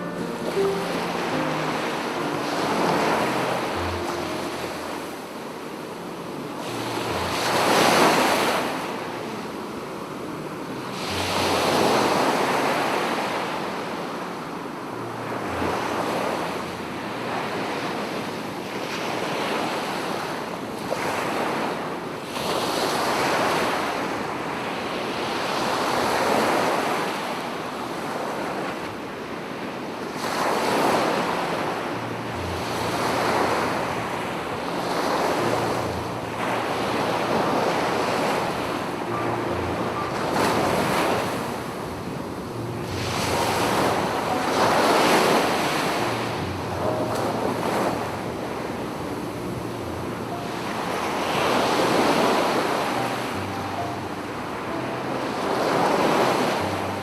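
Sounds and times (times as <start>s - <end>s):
sea waves breaking on beach: 0.0s - 57.0s.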